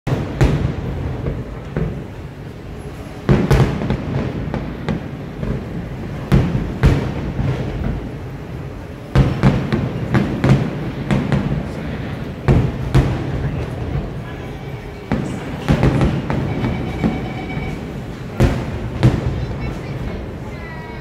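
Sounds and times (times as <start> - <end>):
fireworks bursting with bangs: 0.1 - 21.0.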